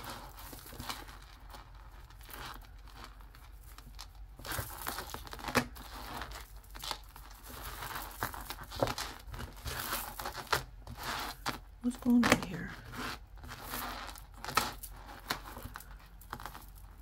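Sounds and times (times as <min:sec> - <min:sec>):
glass beads rustling and clicking: 0:00.0 - 0:11.6, 0:12.4 - 0:17.0.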